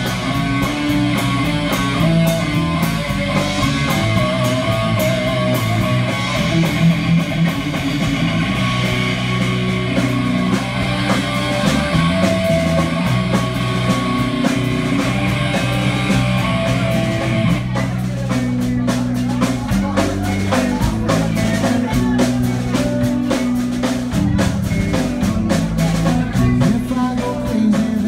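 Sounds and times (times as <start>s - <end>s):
live rock band: 0.0s - 28.0s.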